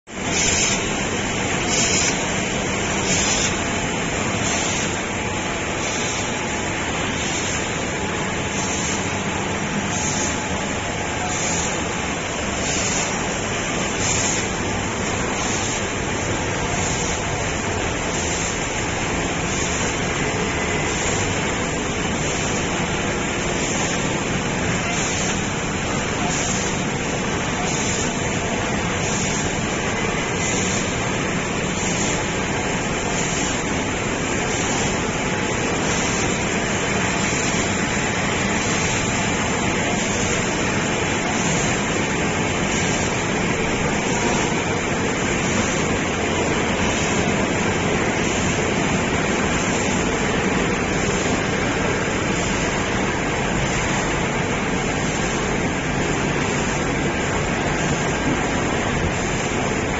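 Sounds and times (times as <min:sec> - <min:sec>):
laminating machine running: 0:00.1 - 0:59.9.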